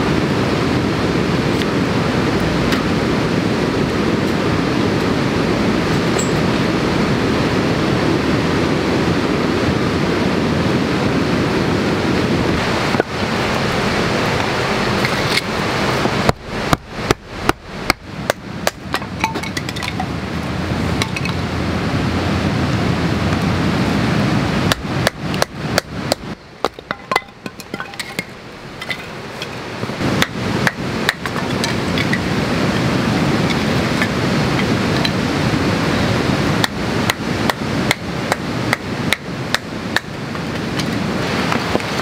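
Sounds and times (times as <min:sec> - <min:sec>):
rushing background noise: 0:00.0 - 0:42.0.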